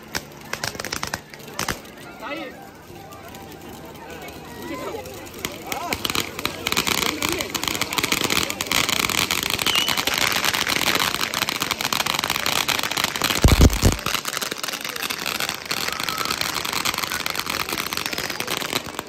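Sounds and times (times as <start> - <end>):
fireworks hissing and crackling: 0.0 - 19.0.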